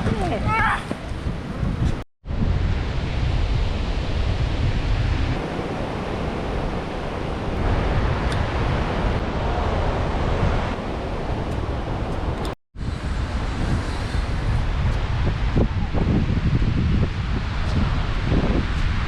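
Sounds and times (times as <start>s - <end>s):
ocean surf washing onto beach: 0.0s - 19.0s
wind rumbling on microphone: 0.0s - 19.0s.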